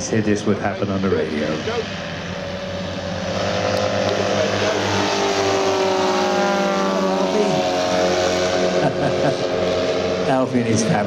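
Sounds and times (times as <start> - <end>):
model airplane engines flying past: 0.0 - 11.0.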